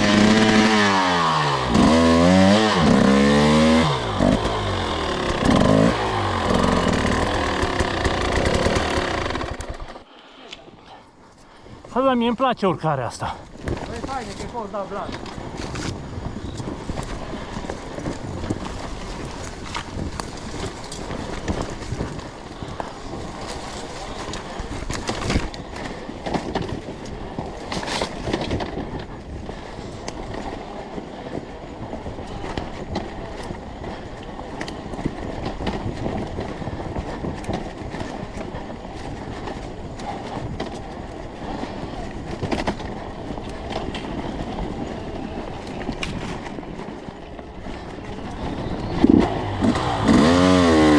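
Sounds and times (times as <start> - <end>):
bike clattering over rough ground: 0.0 - 10.0, 11.3 - 50.9
dirt bike engine running: 0.0 - 50.9
wind and tyre noise: 0.0 - 50.9.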